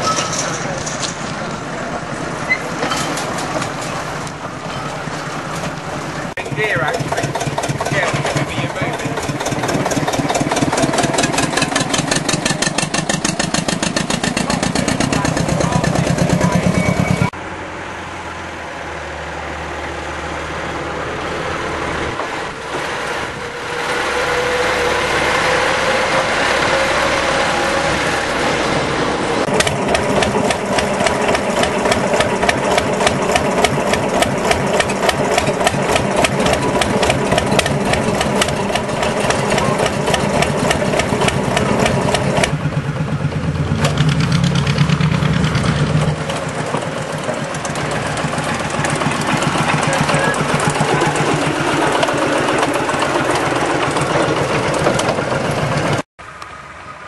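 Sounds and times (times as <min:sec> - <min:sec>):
locomotive engine running: 0:00.0 - 0:57.0.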